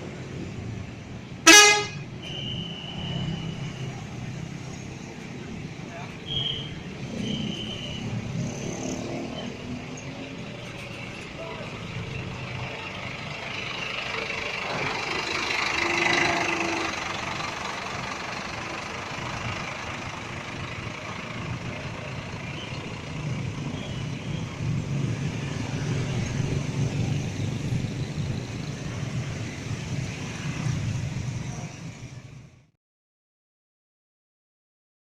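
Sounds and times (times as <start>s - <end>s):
diesel bus engine rumble: 0.0s - 32.7s.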